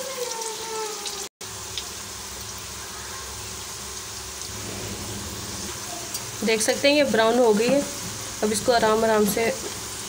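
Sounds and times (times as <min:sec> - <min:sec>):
potato strips frying in oil: 0:00.0 - 0:10.0.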